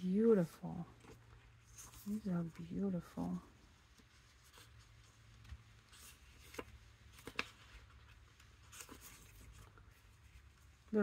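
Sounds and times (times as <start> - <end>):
low steady hum: 0.0 - 11.0
paper sheets rustling: 1.0 - 11.0.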